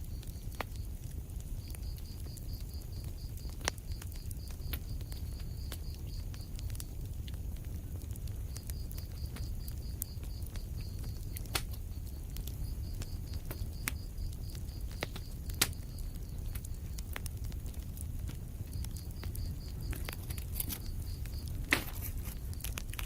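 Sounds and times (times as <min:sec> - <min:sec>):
fire crackles and pops: 0:00.0 - 0:23.0
low rumble of flames: 0:00.0 - 0:23.0.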